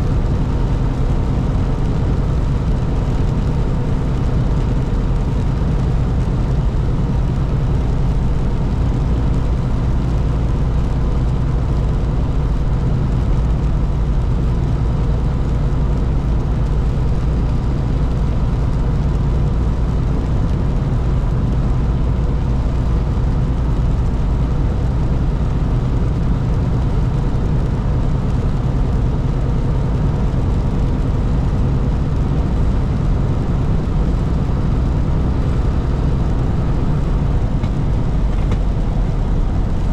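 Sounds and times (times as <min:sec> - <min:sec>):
truck engine and tyres drone: 0:00.0 - 0:39.9.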